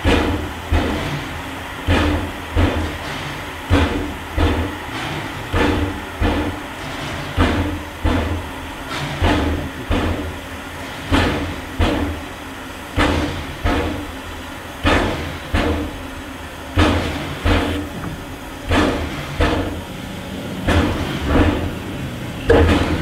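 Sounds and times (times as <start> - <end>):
steam locomotive chuffing: 0.0 - 23.0.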